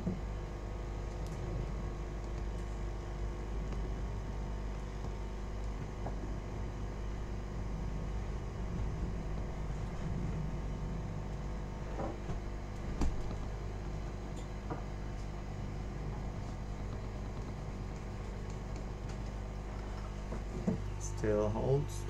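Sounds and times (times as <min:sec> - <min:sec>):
workshop equipment whirring hum: 0:00.0 - 0:22.0.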